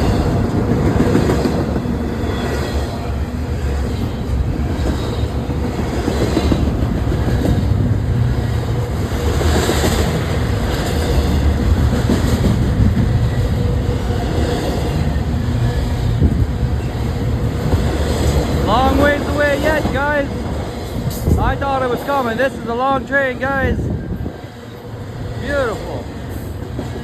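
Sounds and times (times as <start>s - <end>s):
wheels clacking over rail joints: 0.0s - 23.2s
freight train wheels rumbling: 0.0s - 27.0s.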